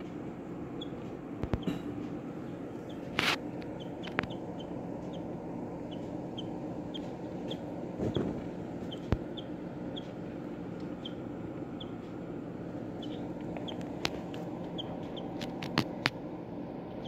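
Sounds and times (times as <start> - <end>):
small bird chipping: 0.7 - 10.2, 10.8 - 12.0, 12.8 - 15.8.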